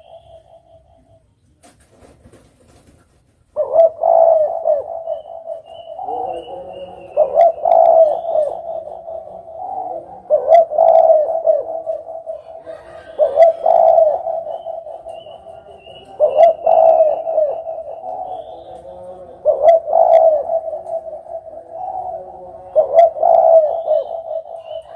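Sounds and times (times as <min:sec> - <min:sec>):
dove cooing: 0:00.0 - 0:01.2, 0:03.5 - 0:24.9.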